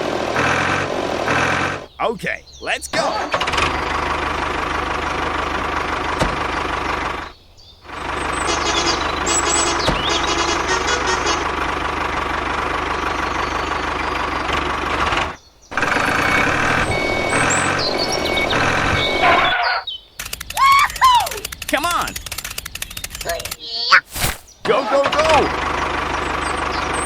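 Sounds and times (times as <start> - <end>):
vehicle engine running: 0.0 - 19.6, 21.3 - 23.6, 24.7 - 27.0.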